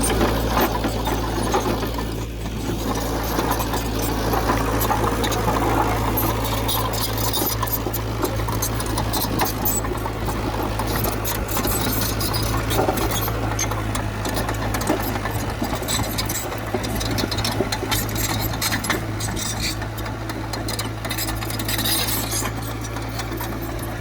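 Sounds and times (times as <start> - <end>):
clicks and clanks: 0.0 - 24.0
heavy machinery diesel engine rumble: 0.0 - 24.0.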